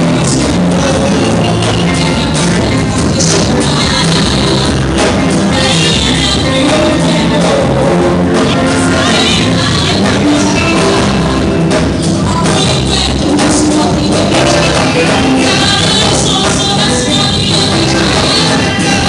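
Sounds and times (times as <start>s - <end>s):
live gospel band with singing: 0.0s - 19.0s.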